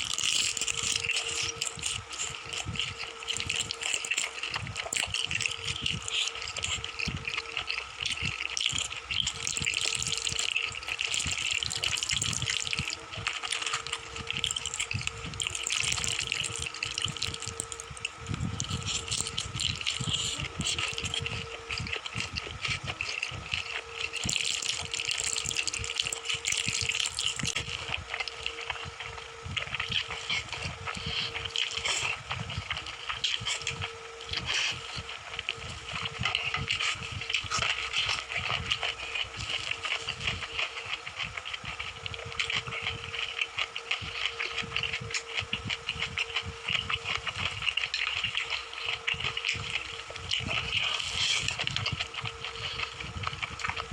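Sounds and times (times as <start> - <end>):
faint steady hum: 0.0 - 53.9
wet chewing and slurping: 0.0 - 53.9.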